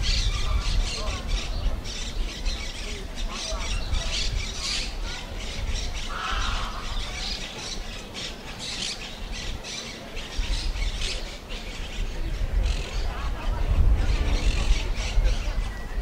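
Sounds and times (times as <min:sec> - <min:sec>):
birds calling harshly: 0:00.0 - 0:16.0.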